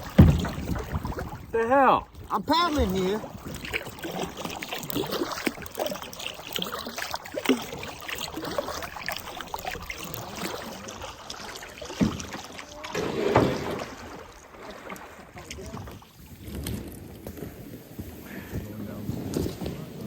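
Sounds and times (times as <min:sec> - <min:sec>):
water splashing: 0:00.0 - 0:17.7
boat knocks and thumps: 0:00.0 - 0:20.0
paddle strokes in water: 0:00.0 - 0:20.0.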